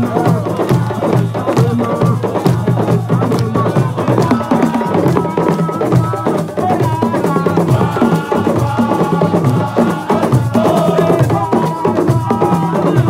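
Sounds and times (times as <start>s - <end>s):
fast drum strokes: 0.0s - 13.0s.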